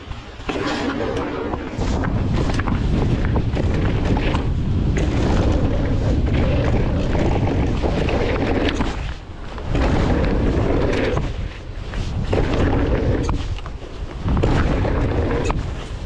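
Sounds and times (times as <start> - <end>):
bike clicks and rattles: 0.0 - 16.0
tyre noise on dirt: 0.0 - 16.0
wind buffeting microphone: 0.0 - 16.0.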